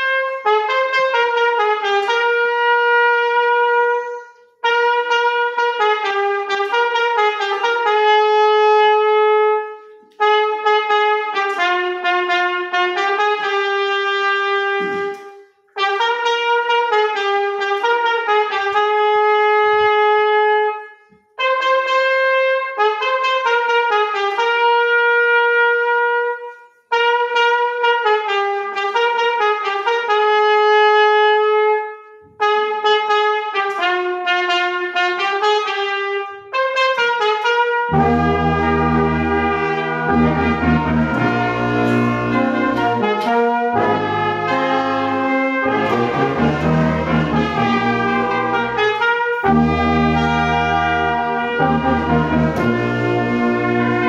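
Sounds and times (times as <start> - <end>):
brass band playing slow tune: 0.0 - 54.0.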